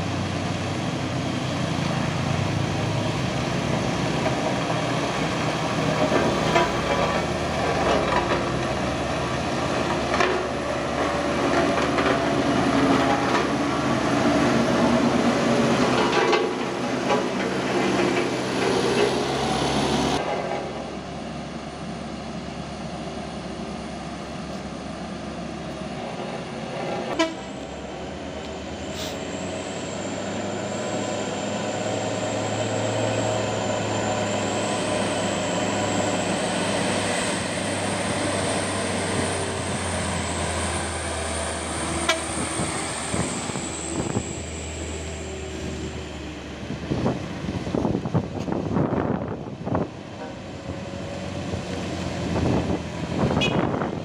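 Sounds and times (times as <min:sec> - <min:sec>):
road roller diesel engine humming: 0:00.0 - 0:54.0.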